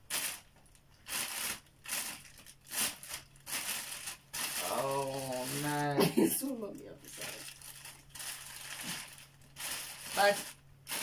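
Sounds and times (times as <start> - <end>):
plastic bag crinkling: 0.0 - 5.9, 6.5 - 11.0.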